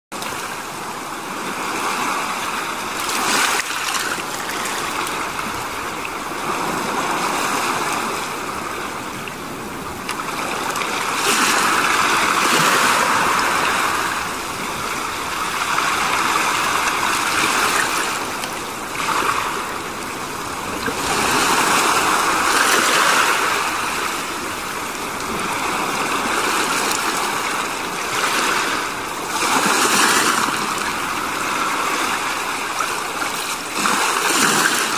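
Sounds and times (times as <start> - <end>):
rushing splashing water: 0.1 - 34.9.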